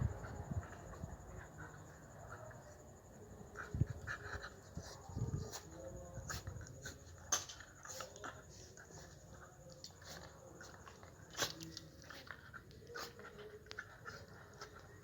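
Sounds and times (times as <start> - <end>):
dog panting: 0.1 - 15.0.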